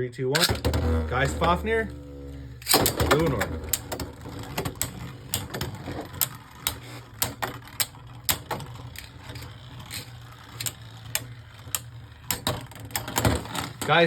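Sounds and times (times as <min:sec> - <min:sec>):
steady low hum: 0:00.0 - 0:13.9
spinning tops clacking: 0:00.4 - 0:14.0.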